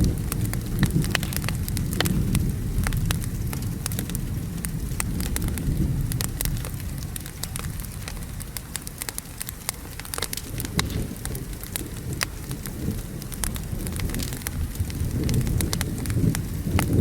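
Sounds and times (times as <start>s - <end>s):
low thunder rumble: 0.0s - 17.0s
steady rain: 0.0s - 17.0s
wood fire crackling: 0.0s - 17.0s.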